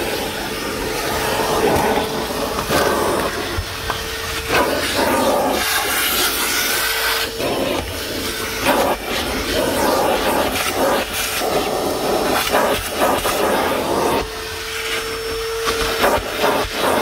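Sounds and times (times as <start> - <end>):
shop vacuum sucking dirt: 0.0 - 17.0.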